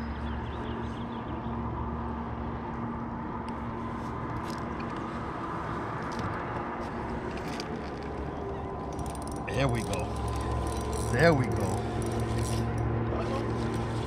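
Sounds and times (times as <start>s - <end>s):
low motor hum with whine: 0.0s - 14.0s.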